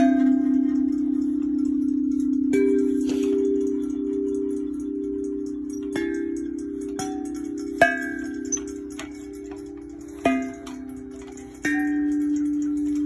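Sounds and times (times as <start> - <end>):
chime tubes ringing: 0.0 - 13.0.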